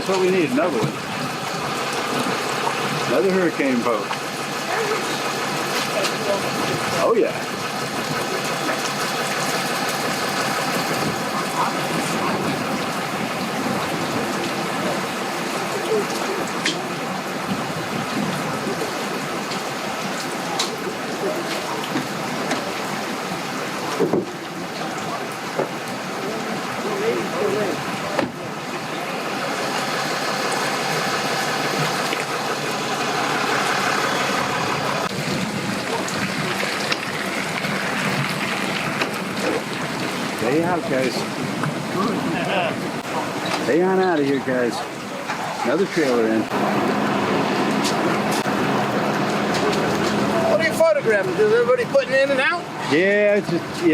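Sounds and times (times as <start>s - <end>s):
churning water rushing: 0.0s - 53.9s
outboard boat motor running: 0.0s - 53.9s.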